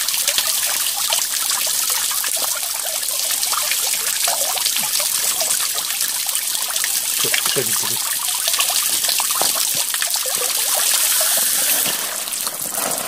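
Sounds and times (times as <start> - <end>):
fountain water splashing into basin: 0.0 - 13.0.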